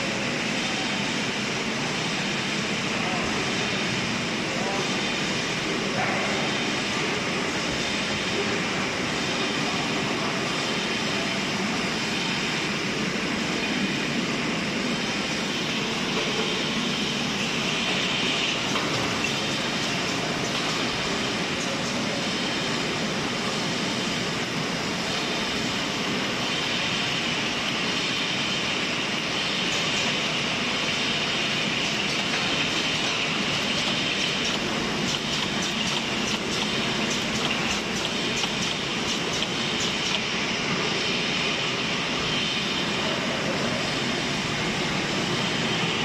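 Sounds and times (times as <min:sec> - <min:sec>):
bottling line conveyors running: 0:00.0 - 0:46.0.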